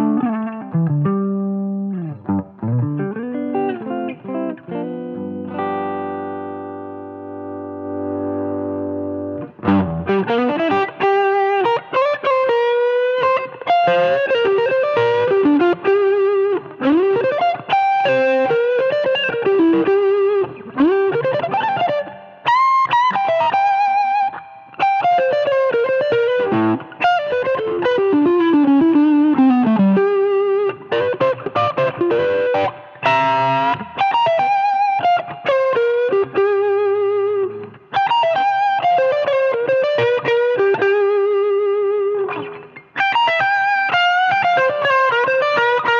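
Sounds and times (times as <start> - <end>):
overdriven electric guitar lead: 0.0 - 45.9.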